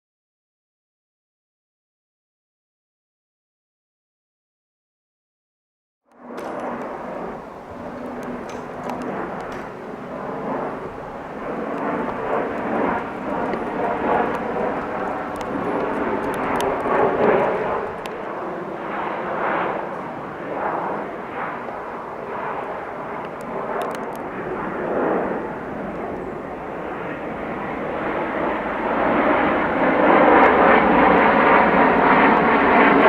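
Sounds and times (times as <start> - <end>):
airliner flying over: 6.1 - 33.0.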